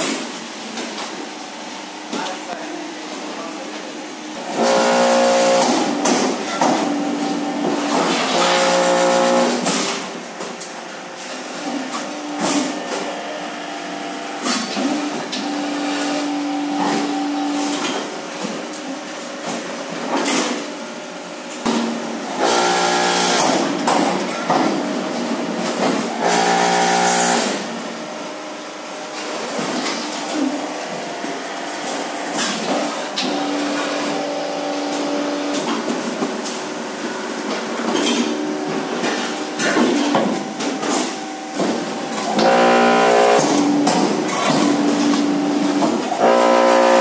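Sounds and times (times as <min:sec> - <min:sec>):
brick machine hum: 0:03.8 - 0:47.0.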